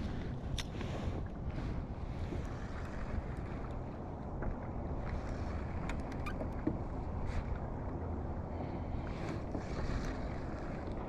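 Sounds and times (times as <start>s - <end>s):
water lapping against hull: 0.0s - 11.0s
wind rumbling on microphone: 0.0s - 11.0s.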